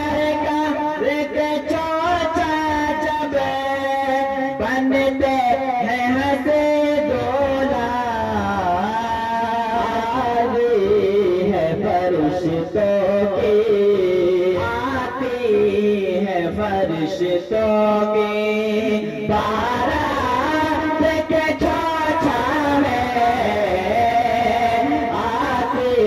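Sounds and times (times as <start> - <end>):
men singing through microphones: 0.0 - 26.0.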